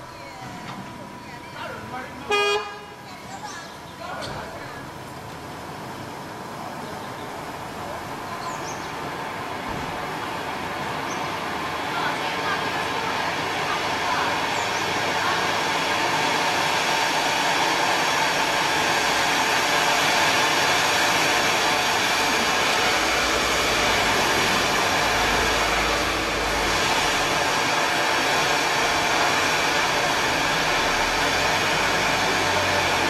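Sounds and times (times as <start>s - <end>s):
firework fountain hissing: 4.5s - 33.0s.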